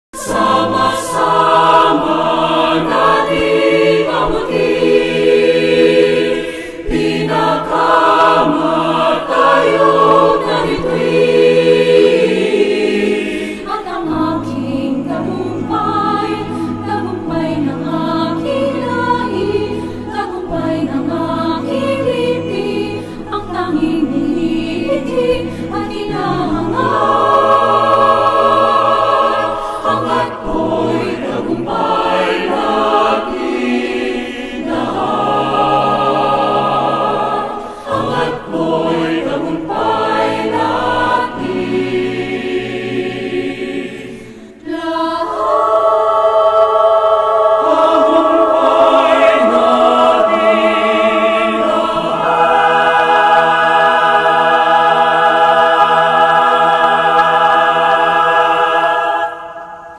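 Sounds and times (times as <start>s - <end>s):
choir singing held notes: 0.2s - 59.9s.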